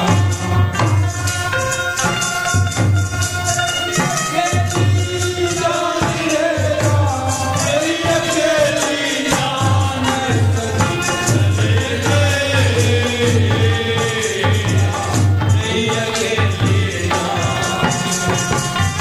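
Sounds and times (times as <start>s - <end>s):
man singing: 0.0s - 0.8s, 4.1s - 19.0s
jingling hand percussion: 0.0s - 19.0s
steady drum beat: 0.0s - 19.0s.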